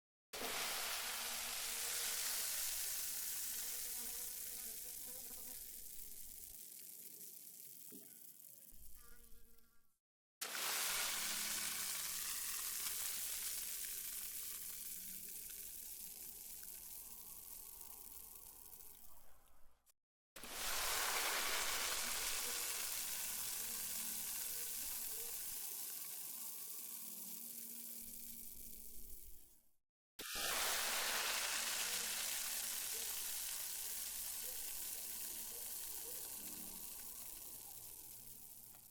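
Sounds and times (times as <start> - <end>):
water foaming fizz: 0.4 - 8.8, 10.4 - 19.0, 20.4 - 29.1, 30.2 - 38.8.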